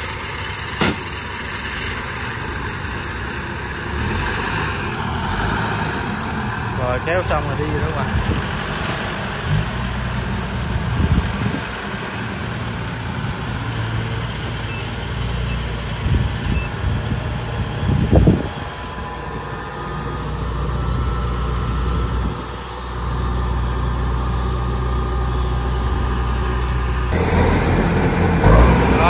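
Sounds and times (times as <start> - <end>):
combine harvester engine running: 0.0 - 29.0.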